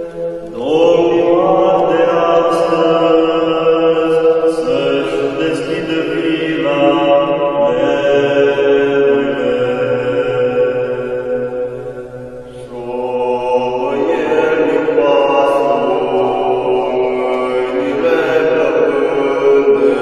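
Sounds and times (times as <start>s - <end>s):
men singing carol in harmony: 0.0s - 20.0s.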